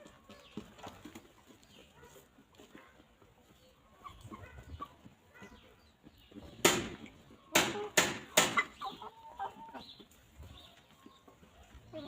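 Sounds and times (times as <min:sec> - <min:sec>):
hen clucking: 0:00.0 - 0:12.0.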